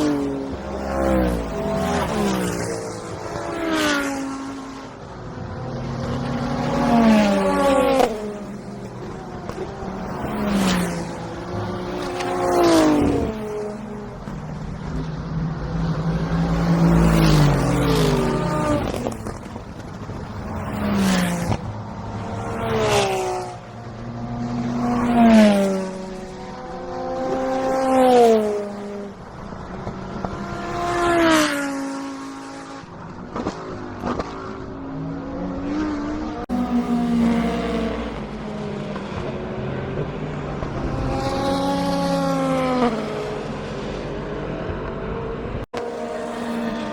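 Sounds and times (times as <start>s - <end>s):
race cars passing at speed: 0.0s - 46.9s.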